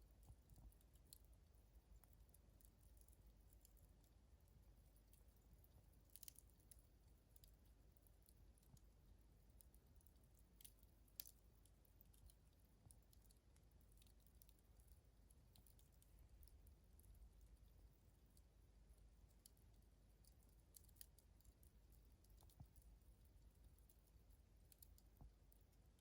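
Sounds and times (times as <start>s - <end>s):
wood fire crackling: 0.1s - 26.0s.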